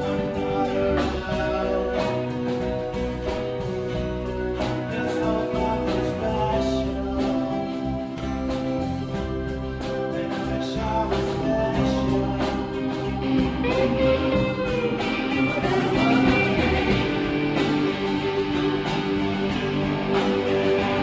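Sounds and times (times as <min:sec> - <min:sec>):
person singing: 0:00.0 - 0:08.9, 0:09.7 - 0:21.0
guitar playing: 0:00.0 - 0:21.0.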